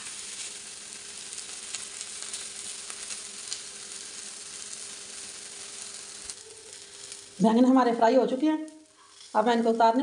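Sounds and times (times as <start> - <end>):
eggplant sizzling on a pan: 0.0 - 10.0.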